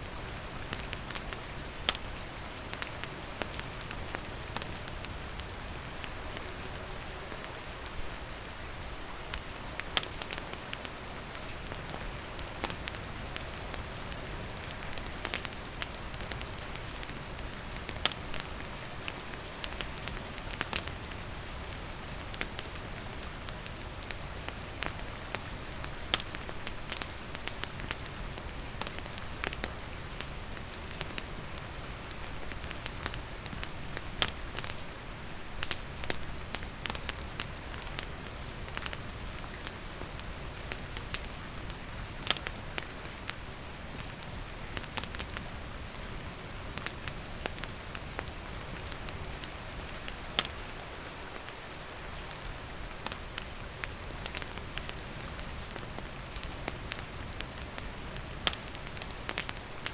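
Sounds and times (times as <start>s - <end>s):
rain falling: 0.0s - 59.9s
campfire crackling and popping: 0.1s - 8.1s, 9.2s - 59.9s.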